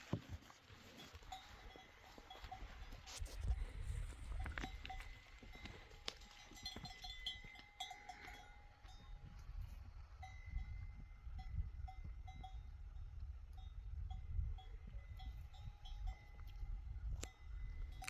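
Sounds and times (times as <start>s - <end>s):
livestock bells tinkling: 0.8s - 18.0s.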